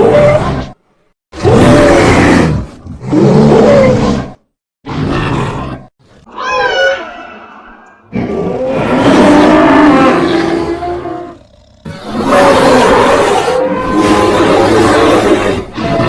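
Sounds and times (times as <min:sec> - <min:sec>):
cartoon creature deep roars: 0:01.4 - 0:06.7, 0:08.1 - 0:16.0.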